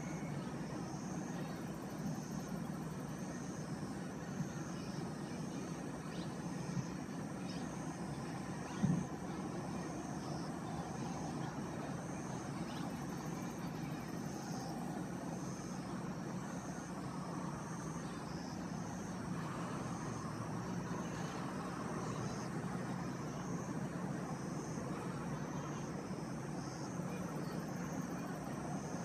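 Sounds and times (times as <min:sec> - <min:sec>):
distant road traffic hum: 0:00.0 - 0:29.0.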